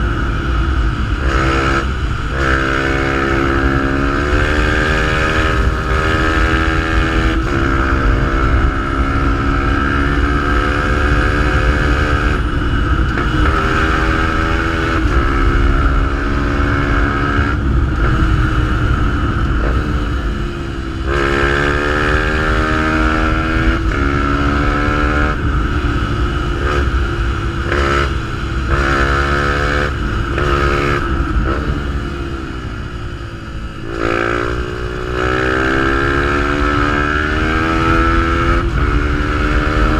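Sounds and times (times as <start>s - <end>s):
motorcycle engine accelerating: 0.0s - 39.9s
wind and road rumble: 0.0s - 39.9s.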